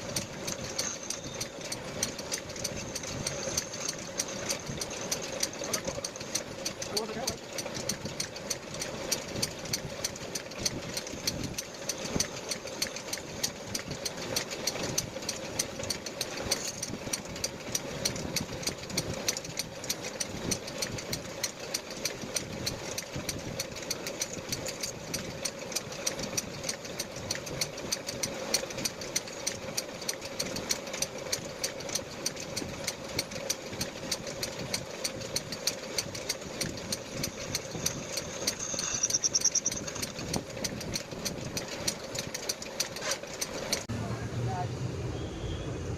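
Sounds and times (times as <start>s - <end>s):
metal lathe humming and ticking: 0.0s - 43.9s.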